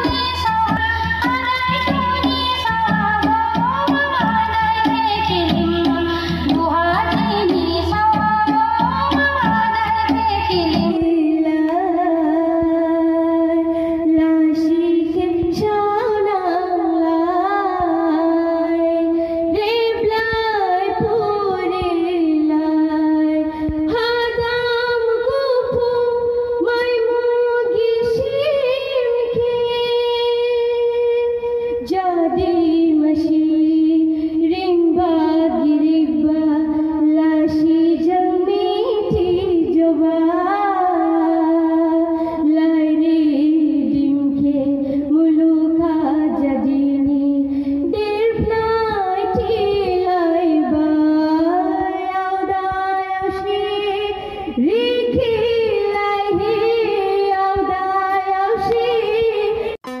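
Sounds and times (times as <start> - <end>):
woman singing: 0.0 - 60.0.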